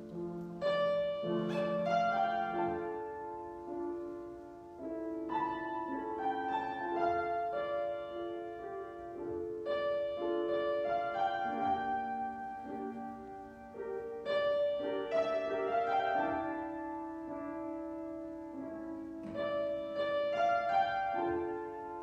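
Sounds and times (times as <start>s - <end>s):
slow keyboard music: 0.0s - 22.0s.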